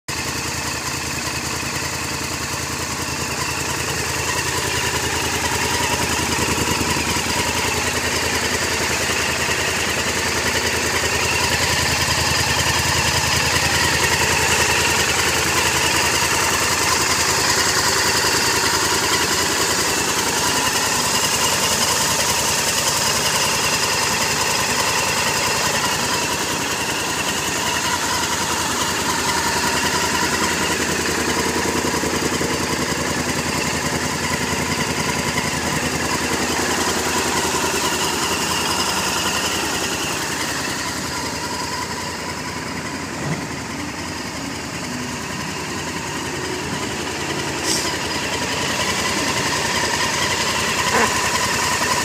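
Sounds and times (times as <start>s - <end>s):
motorcycle engine idling: 0.1s - 52.0s.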